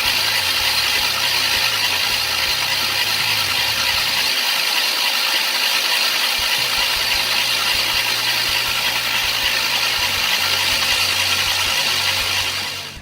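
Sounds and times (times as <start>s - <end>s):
starter motor cranking engine: 0.0s - 13.0s.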